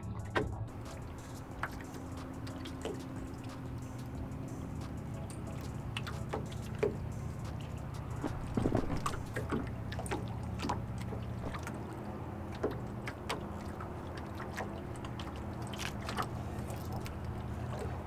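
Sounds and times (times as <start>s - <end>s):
low steady hum: 0.0s - 18.0s
water lapping against boat hull: 0.0s - 18.0s.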